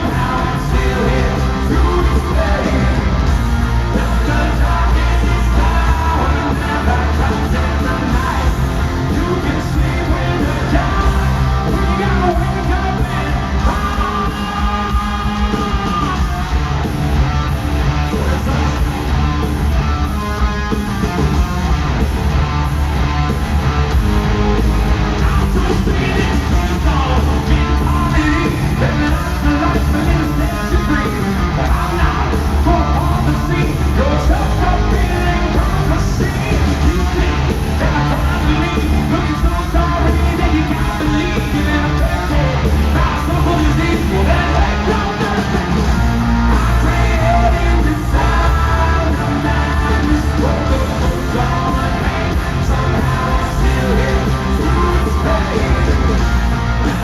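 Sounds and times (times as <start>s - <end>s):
singer belting vocals: 0.0s - 21.6s, 24.0s - 57.0s
rock band playing live: 0.0s - 57.0s.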